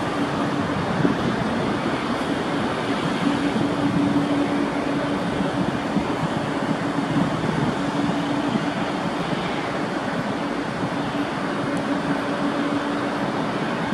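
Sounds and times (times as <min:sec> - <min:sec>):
jet engines roaring: 0:00.0 - 0:13.9.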